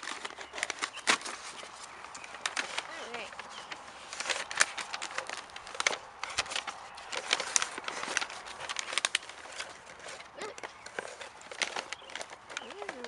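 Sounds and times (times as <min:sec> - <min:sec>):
tissue paper crinkling and rustling: 0:00.0 - 0:13.0.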